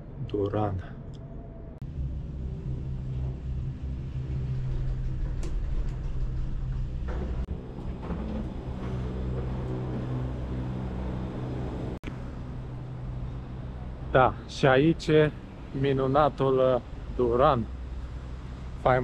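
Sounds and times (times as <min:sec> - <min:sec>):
low machine hum: 0:01.1 - 0:19.0.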